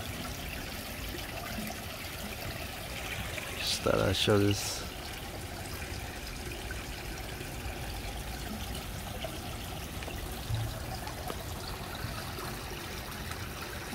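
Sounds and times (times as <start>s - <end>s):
water trickling into pond: 0.0s - 13.9s.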